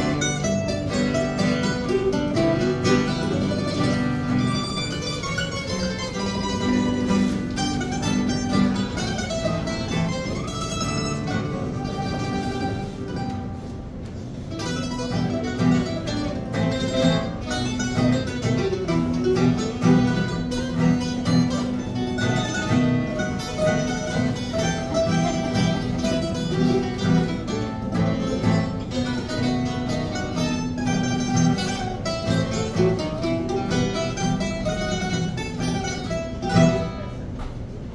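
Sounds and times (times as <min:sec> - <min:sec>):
acoustic guitars and mandolin playing: 0:00.0 - 0:37.9.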